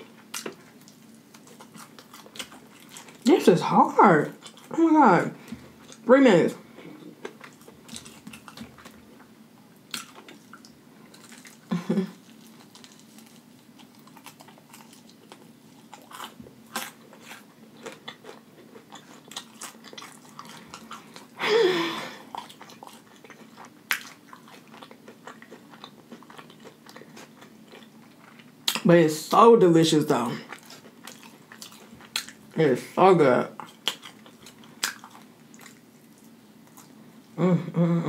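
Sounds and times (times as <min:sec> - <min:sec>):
chewing crispy chicken: 0:00.0 - 0:04.8, 0:05.4 - 0:28.9, 0:30.3 - 0:32.7, 0:33.4 - 0:37.1.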